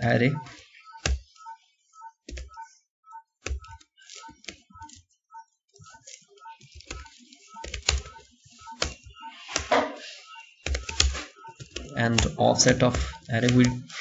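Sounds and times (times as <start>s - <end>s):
keyboard typing: 0.0s - 14.0s.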